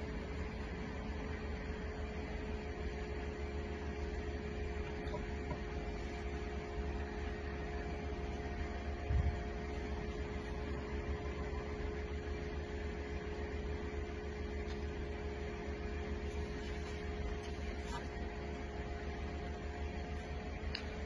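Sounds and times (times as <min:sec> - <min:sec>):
faint steady tones: 0:00.0 - 0:21.0
machine hum with low rumble: 0:00.0 - 0:21.0.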